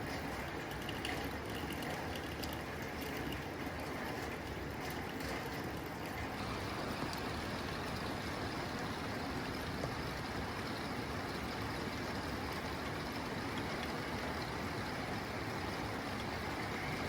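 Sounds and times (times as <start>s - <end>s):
heavy rain on a tin roof: 0.0s - 17.0s.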